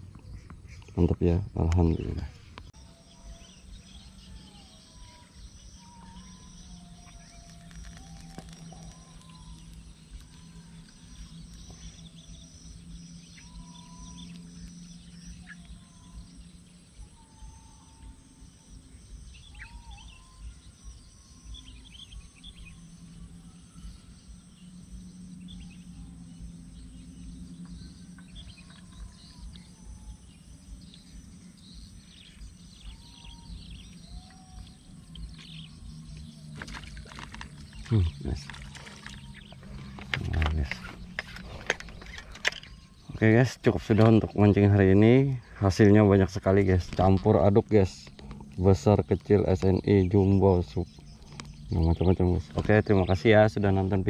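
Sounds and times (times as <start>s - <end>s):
low hum: 0.0s - 54.0s
steady high whine: 1.5s - 54.0s
short chirping calls: 1.8s - 54.0s.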